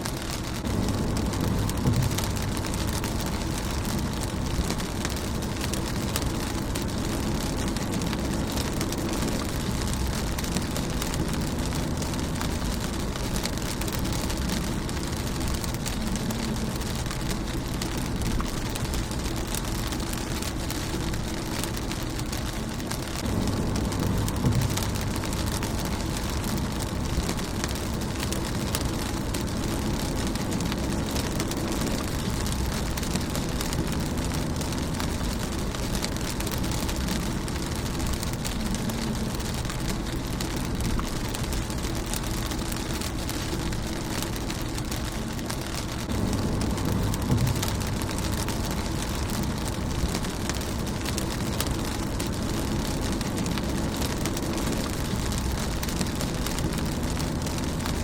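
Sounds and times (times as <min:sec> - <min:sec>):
low rumble: 0:00.0 - 0:58.0
rain on a windshield: 0:00.0 - 0:58.0.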